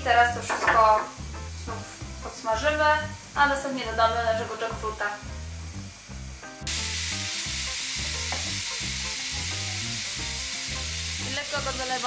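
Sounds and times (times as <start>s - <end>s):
food sizzling in frying pan: 0.1s - 12.0s.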